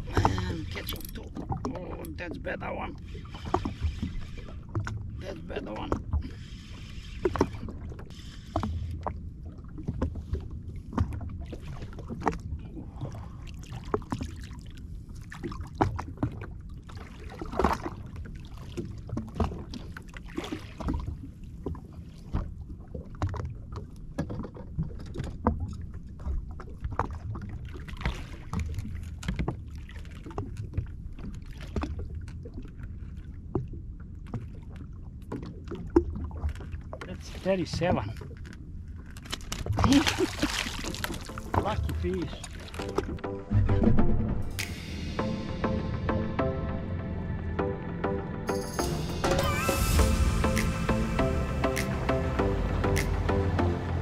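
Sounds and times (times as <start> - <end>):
waves lapping against hull: 0.0 - 46.2.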